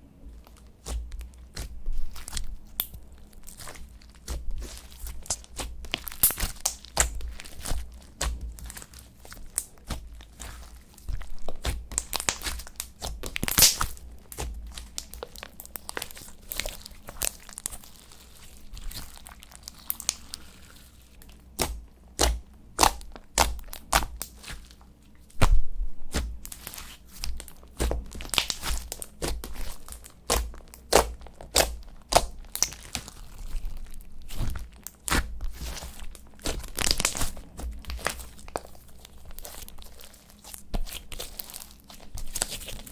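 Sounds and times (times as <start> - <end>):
slime crackling and popping: 0.4 - 42.9.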